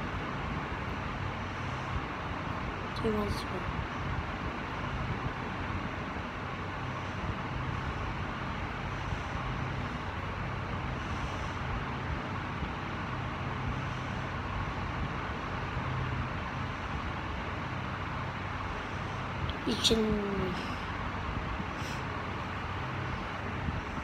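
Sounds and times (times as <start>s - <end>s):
background hum and hiss: 0.0s - 24.0s.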